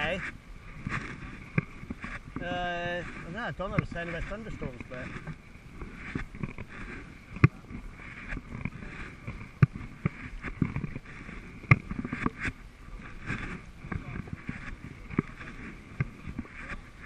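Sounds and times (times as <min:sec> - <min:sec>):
water washing around kayak hull: 0:00.0 - 0:17.0.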